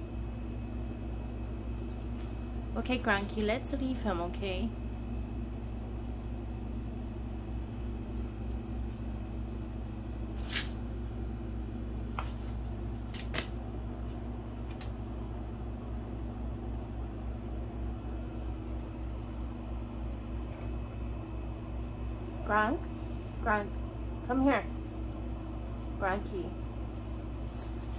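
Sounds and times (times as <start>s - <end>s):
low indoor hum: 0.0s - 27.9s.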